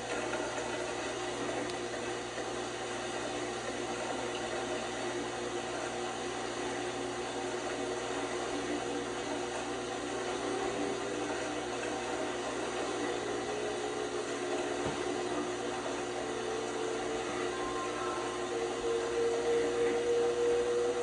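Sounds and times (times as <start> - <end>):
washing machine hum and whirr: 0.0 - 21.0.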